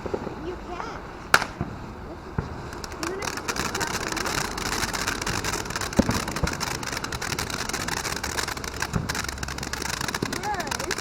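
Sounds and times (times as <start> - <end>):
fountain firework hissing and crackling: 0.0 - 11.0.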